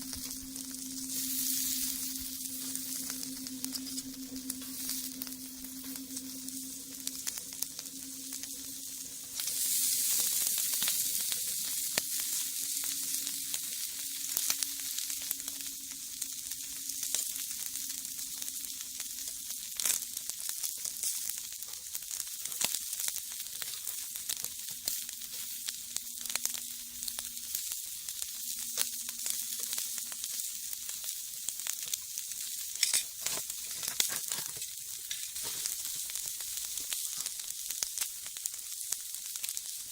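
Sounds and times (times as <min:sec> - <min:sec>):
fire crackling and popping: 0:00.0 - 0:39.9
fish sizzling on a grill: 0:00.0 - 0:39.9.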